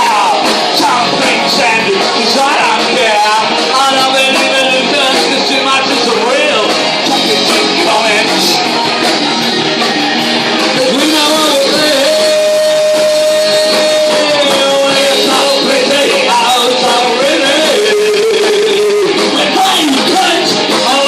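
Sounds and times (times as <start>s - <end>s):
electric guitar: 0.0s - 21.0s
person singing: 0.0s - 21.0s
rock band playing: 0.0s - 21.0s.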